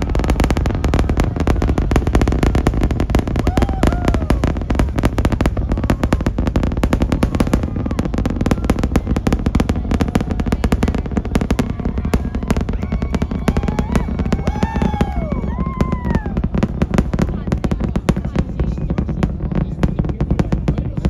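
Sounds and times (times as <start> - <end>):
rocket engines crackling rumble: 0.0 - 21.0.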